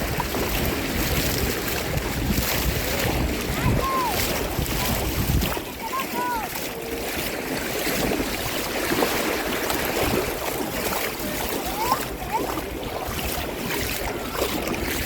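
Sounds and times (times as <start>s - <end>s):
water lapping at a beach: 0.0s - 15.0s.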